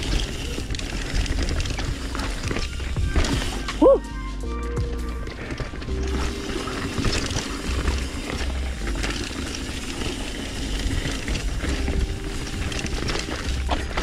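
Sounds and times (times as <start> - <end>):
chain and frame rattling: 0.0 - 3.9, 5.2 - 14.0
bike tyres crunching over rock: 0.0 - 4.0, 4.9 - 14.0.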